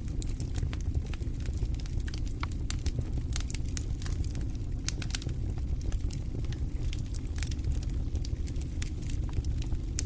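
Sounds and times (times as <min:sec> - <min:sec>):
fire crackling and popping: 0:00.0 - 0:10.0
fire rumbling: 0:00.0 - 0:10.0.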